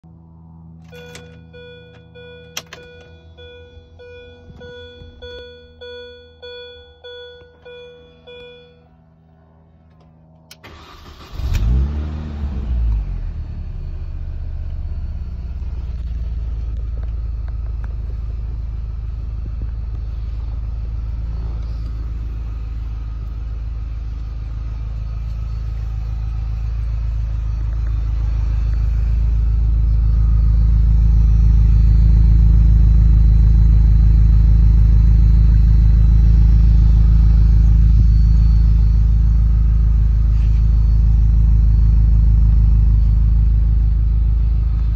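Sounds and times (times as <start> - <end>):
car engine starting and idling: 0.0 - 44.9.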